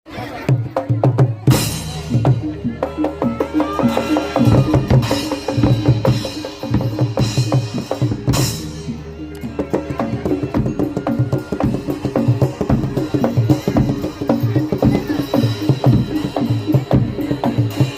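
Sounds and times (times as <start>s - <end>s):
hand drums: 0.4s - 17.9s
gamelan ensemble playing: 1.5s - 17.9s.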